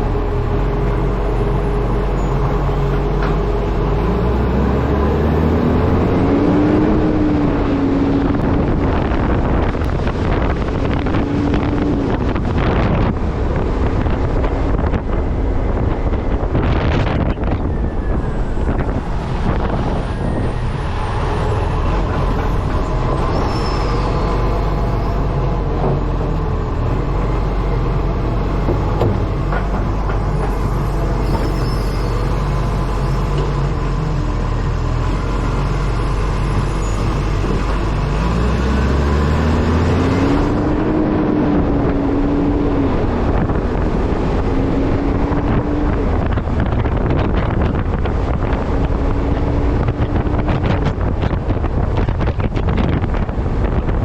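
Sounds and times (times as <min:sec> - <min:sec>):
whine climbing in pitch: 0:00.0 - 0:53.9
truck diesel engine running: 0:00.0 - 0:54.0
wind noise: 0:00.0 - 0:54.0.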